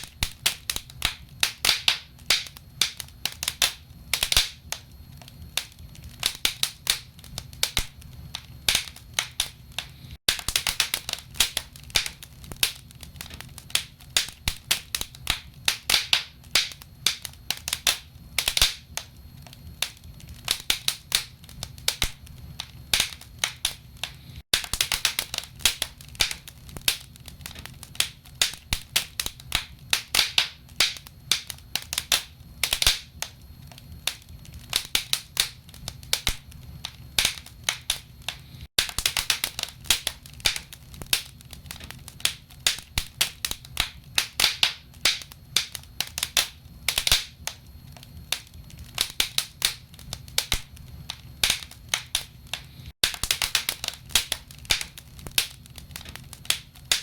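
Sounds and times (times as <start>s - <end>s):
low fire rumble: 0.0s - 57.0s
wood fire crackling and popping: 0.0s - 57.0s.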